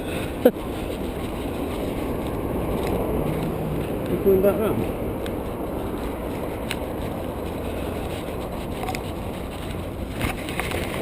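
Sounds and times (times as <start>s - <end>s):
motor vehicle rumbling: 0.0s - 11.0s.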